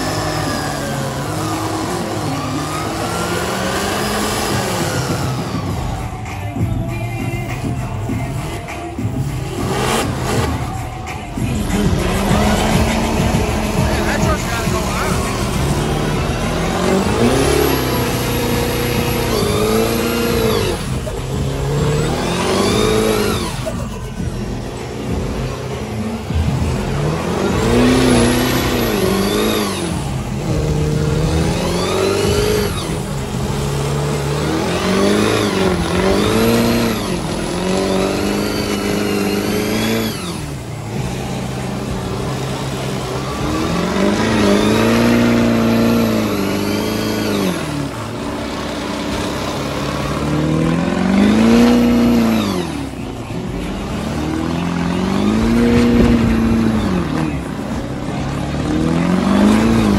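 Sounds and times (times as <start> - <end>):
engine running steadily: 0.0 - 59.9
truck engines revving: 0.0 - 59.9.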